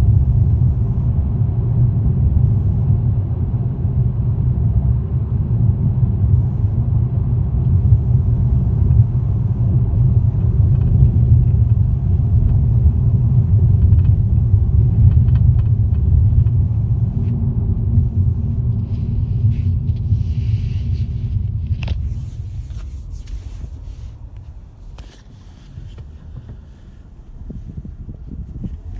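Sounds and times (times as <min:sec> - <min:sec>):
car engine low rumble: 0:00.0 - 0:28.9.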